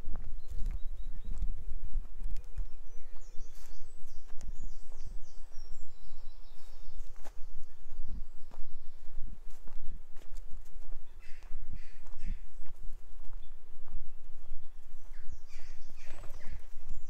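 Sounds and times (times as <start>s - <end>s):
footsteps walking on a path: 0.0s - 17.0s.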